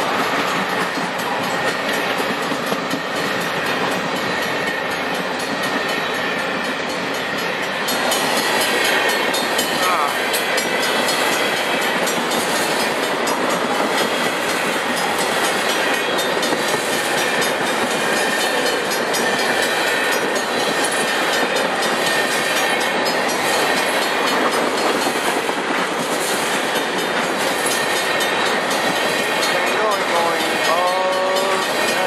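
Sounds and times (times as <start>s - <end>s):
freight train passing: 0.0s - 32.0s.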